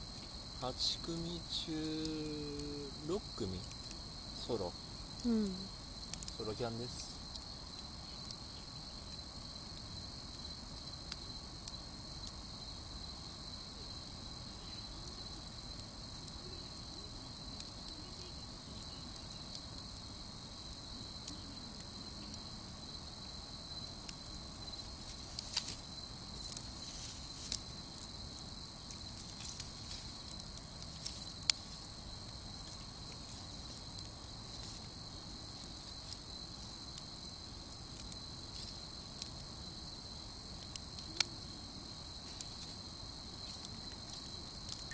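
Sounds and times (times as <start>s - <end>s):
campfire crackling: 0.0s - 44.9s
crickets chirping: 0.0s - 44.9s.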